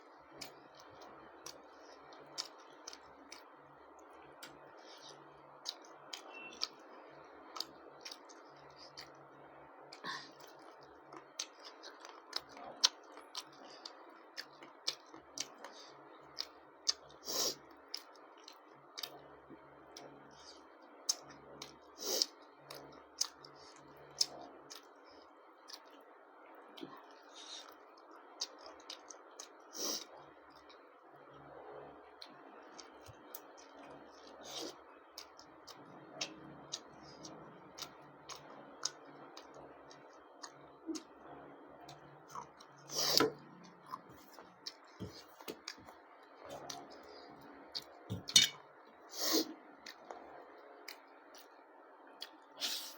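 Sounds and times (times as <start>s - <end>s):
person chewing food: 0.3s - 9.2s, 9.9s - 19.3s, 19.9s - 26.0s, 26.7s - 30.9s, 31.7s - 48.6s.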